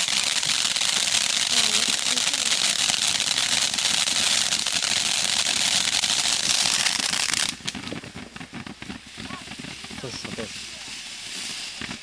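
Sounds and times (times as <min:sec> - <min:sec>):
firework fountain crackling: 0:00.0 - 0:12.0.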